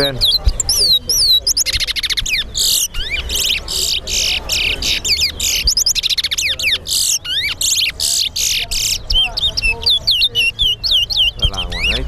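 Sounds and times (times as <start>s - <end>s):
songbirds singing trills: 0.0s - 12.0s.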